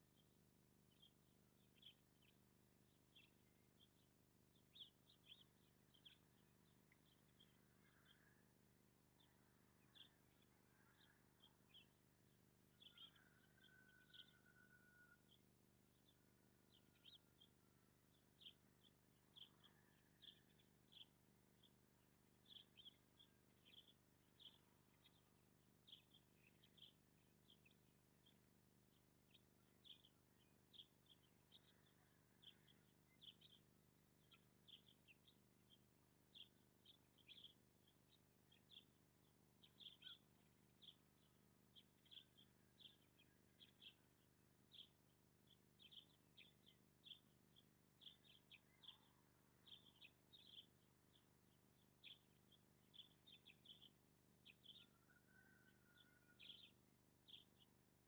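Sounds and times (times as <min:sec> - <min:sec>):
small birds chirping: 0:00.0 - 0:08.5, 0:09.2 - 0:57.9.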